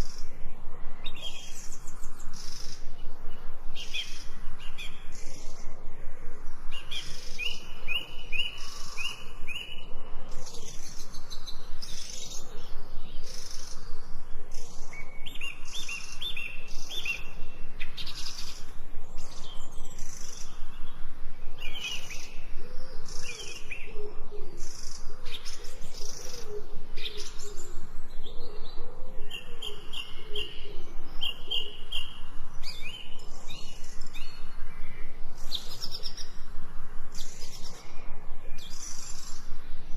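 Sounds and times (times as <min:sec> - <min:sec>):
birds chirping and calling: 0:00.0 - 0:05.8, 0:06.7 - 0:36.5, 0:37.1 - 0:39.9.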